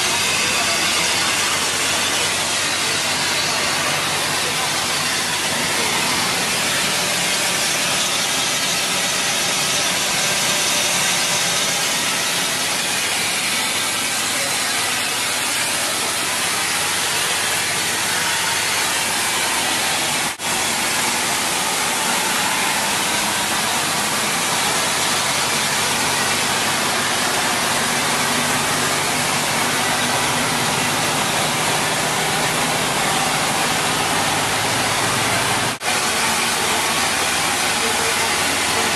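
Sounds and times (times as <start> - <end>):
loud hiss of escaping steam: 0.0 - 38.9.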